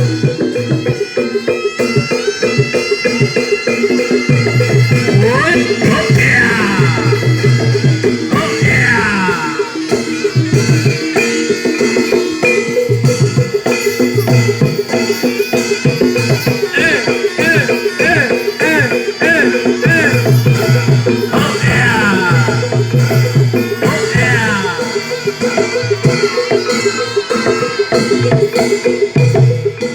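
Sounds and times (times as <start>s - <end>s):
hand drums beating: 0.0s - 29.9s
metal percussion: 0.0s - 29.9s
wavering high melody: 0.0s - 29.9s.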